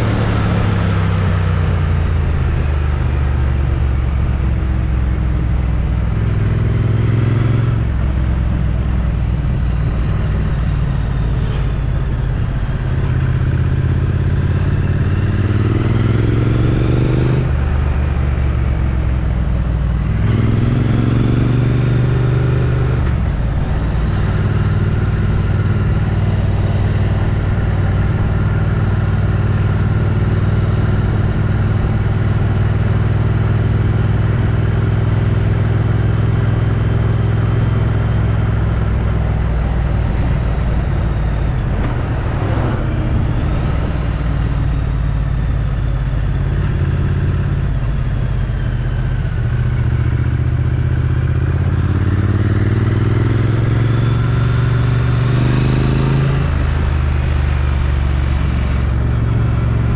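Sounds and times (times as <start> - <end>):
motorcycle engine revving: 5.5 - 59.9.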